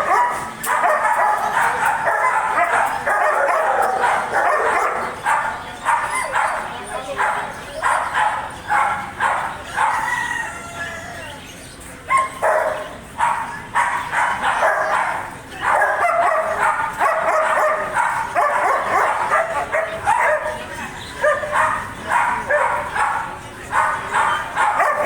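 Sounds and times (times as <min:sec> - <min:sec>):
dog barking: 0:00.0 - 0:10.4, 0:12.1 - 0:25.0.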